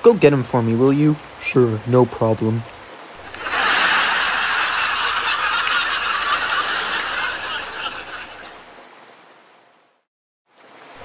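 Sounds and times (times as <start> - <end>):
heavy rain pattering: 0.0 - 9.3.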